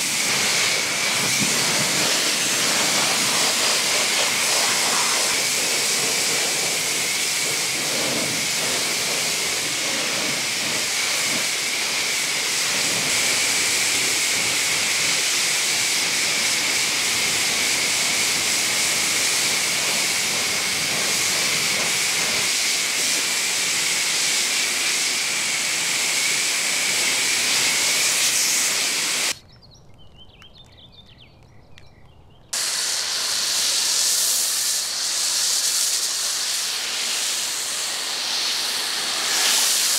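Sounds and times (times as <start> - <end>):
pressure washer spraying water: 0.0 - 29.4, 32.6 - 39.9.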